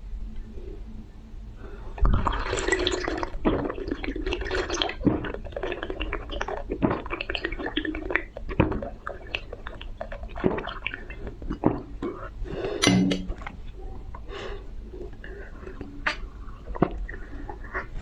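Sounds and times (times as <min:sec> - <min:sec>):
person drinking: 0:01.9 - 0:13.6, 0:14.2 - 0:18.0.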